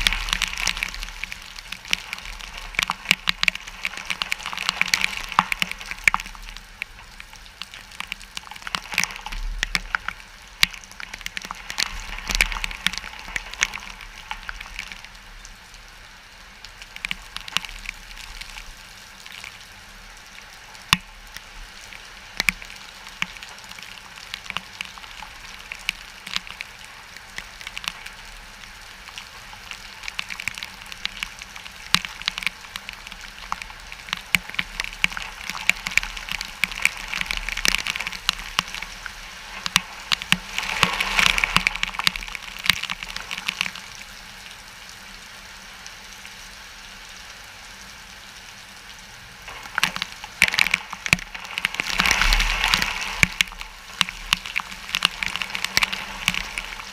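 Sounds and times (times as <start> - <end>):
wind-driven rain: 0.0 - 56.9.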